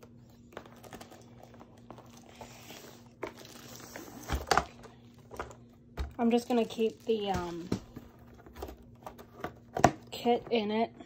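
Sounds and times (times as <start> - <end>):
packaging rustling and crinkling: 0.0 - 9.9.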